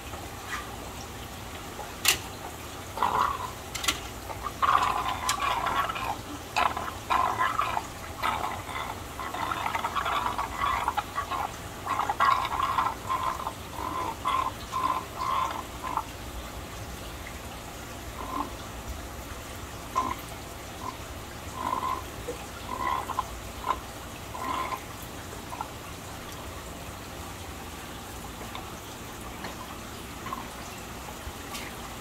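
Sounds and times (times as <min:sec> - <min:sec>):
water gurgling and glugging: 0:00.0 - 0:32.0.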